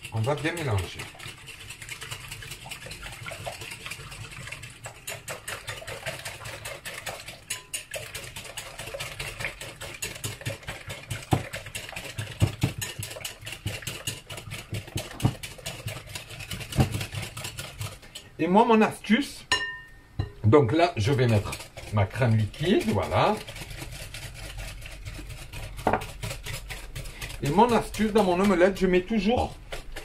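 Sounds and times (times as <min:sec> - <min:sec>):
whisk clicking on glass bowl: 0:00.0 - 0:18.3, 0:20.9 - 0:30.0.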